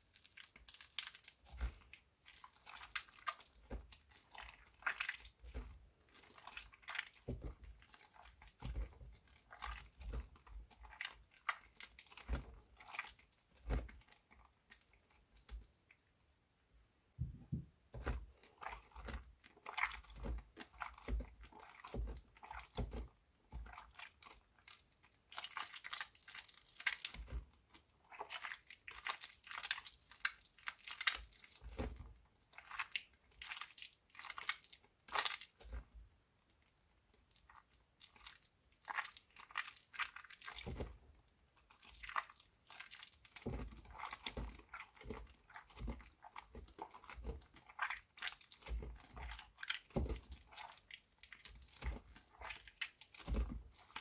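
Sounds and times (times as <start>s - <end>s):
soap crunching and crackling: 0.0s - 16.1s, 17.2s - 54.0s.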